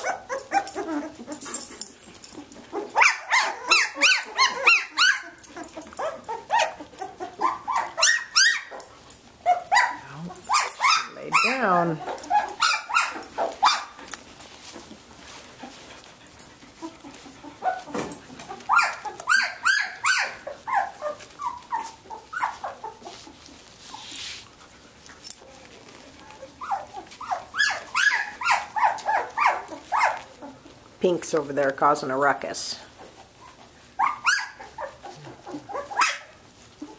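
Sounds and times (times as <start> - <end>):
puppies squeaking and whining: 0.0 - 30.9, 32.9 - 36.9.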